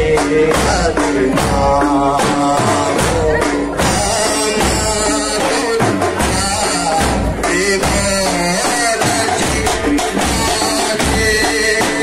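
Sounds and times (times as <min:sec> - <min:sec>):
frame drums beaten: 0:00.0 - 0:12.0
men singing together: 0:00.0 - 0:12.0.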